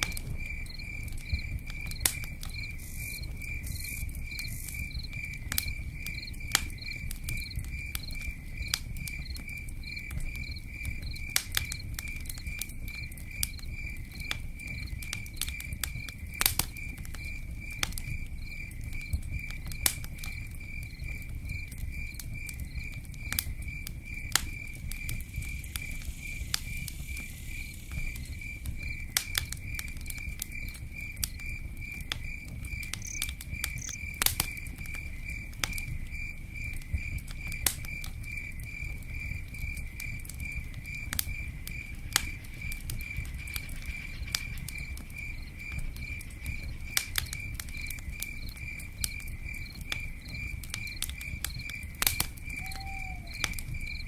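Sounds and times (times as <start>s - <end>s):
campfire crackling: 0.0s - 54.0s
crickets chirping: 0.0s - 54.0s.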